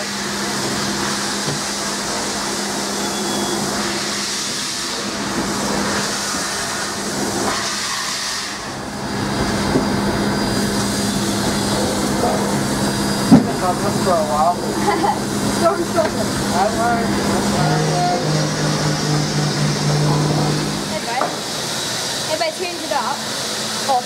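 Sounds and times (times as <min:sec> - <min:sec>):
hiss and rush of steam: 0:00.0 - 0:24.0
steady hum: 0:00.0 - 0:24.0.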